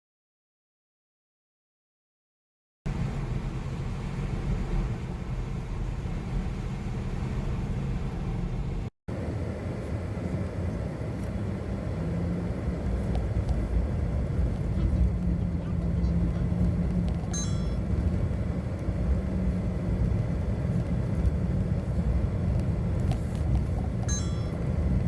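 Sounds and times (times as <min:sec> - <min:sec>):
road noise: 0:02.9 - 0:25.0
vehicle engine humming: 0:02.9 - 0:25.0.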